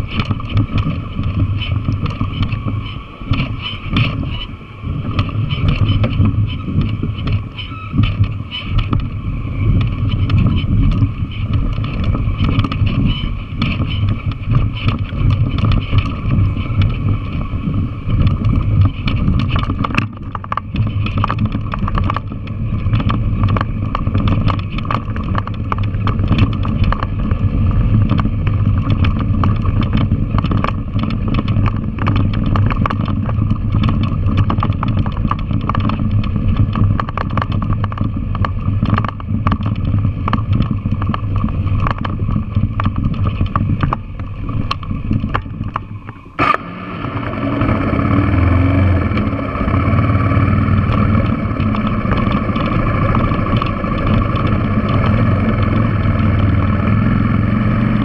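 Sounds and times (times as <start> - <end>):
bike rattling over stones: 0.0 - 58.0
motorcycle engine running: 0.0 - 58.0.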